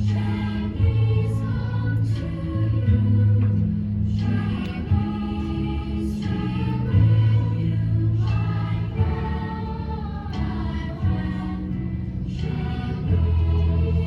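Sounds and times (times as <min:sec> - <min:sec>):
choir singing: 0:00.0 - 0:14.0
low bass accompaniment: 0:00.0 - 0:14.0.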